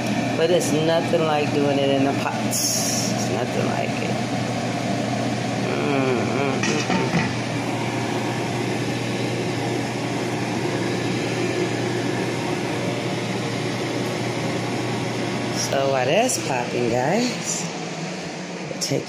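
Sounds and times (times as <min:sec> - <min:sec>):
steady hum with hiss: 0:00.0 - 0:19.0.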